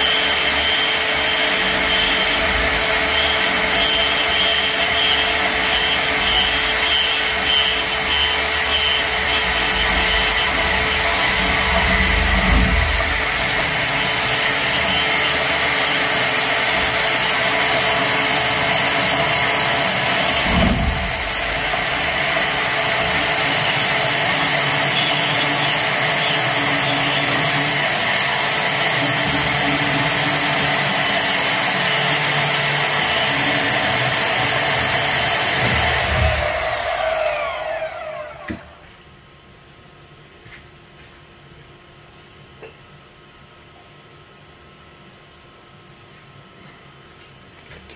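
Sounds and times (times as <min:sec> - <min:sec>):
band saw cutting pipe: 0:00.0 - 0:38.8
motor winding down: 0:00.0 - 0:38.8.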